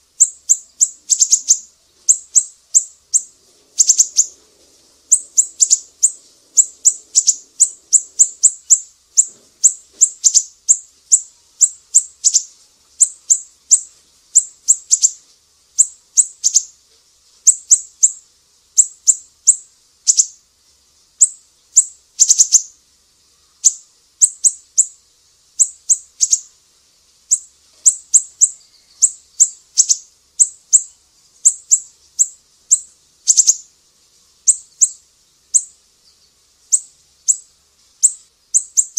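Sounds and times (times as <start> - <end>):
small bird chirping: 0.0 - 38.9.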